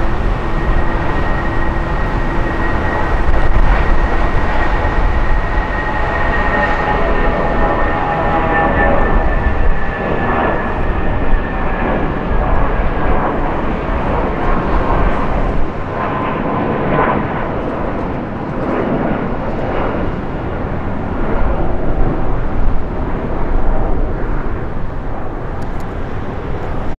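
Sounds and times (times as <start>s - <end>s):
jet airliner climbing: 0.0s - 27.0s.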